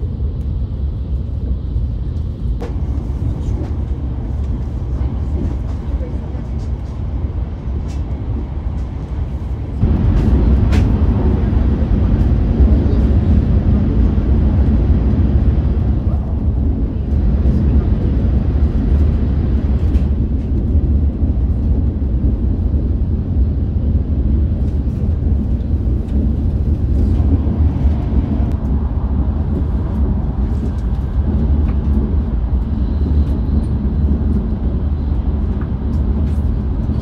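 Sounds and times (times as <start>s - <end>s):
train cabin rumble: 0.0s - 37.0s.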